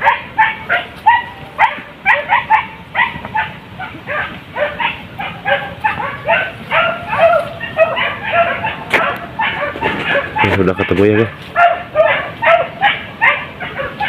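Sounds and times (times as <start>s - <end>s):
hunting dogs yelping and baying: 0.0s - 14.0s.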